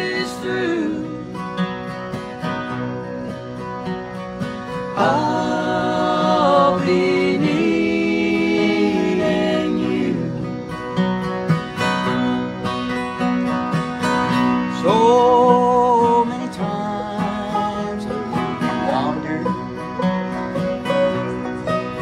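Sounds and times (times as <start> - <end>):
acoustic guitars picking: 0.0 - 22.0
banjo picking: 0.0 - 22.0.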